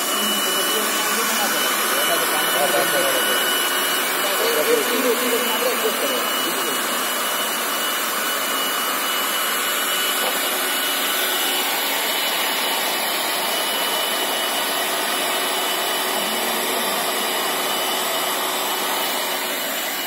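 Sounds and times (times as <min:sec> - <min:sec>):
hot-air blower hiss: 0:00.0 - 0:20.0
thin high whine: 0:00.0 - 0:20.0.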